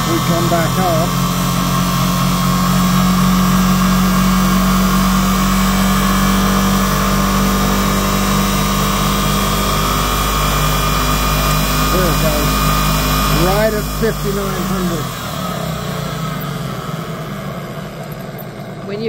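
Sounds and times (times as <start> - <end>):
motor humming with high whine: 0.0 - 19.0.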